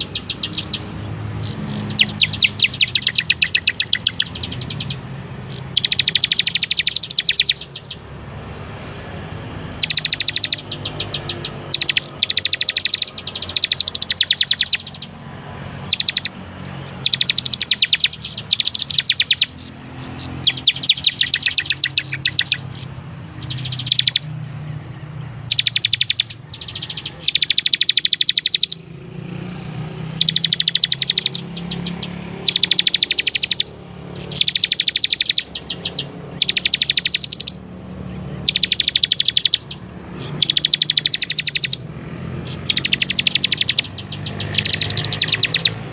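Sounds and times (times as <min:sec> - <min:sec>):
bird singing fast chattering notes: 0:00.0 - 0:45.9.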